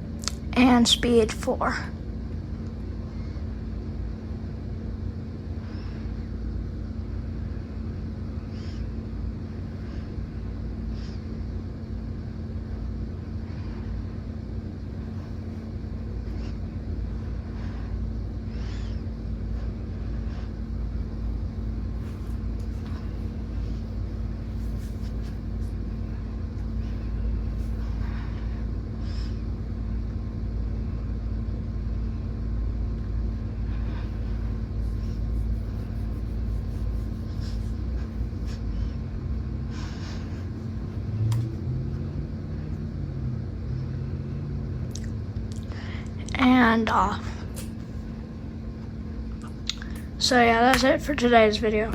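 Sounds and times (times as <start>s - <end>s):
ceiling fan running: 0.0s - 51.9s.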